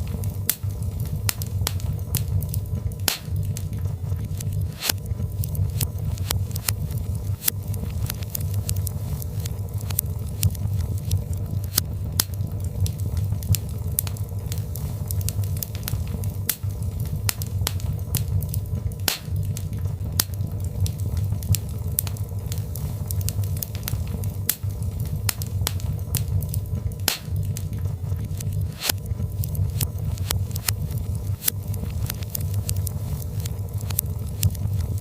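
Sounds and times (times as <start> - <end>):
fire burning: 0.0 - 35.0
wood crackling and popping: 0.0 - 35.0.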